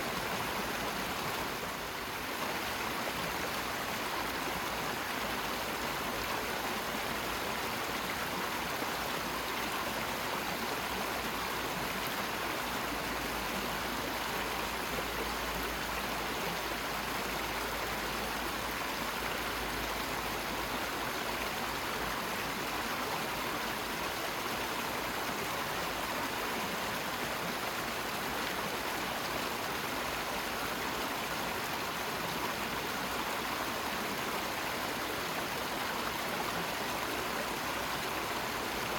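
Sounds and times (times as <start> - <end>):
rushing running water: 0.0 - 38.9.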